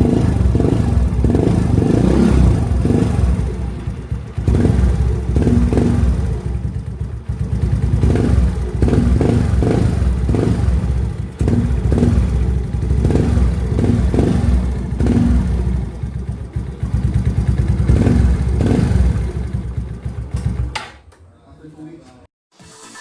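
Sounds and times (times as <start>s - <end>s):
scooter exhaust revving: 0.0s - 20.8s.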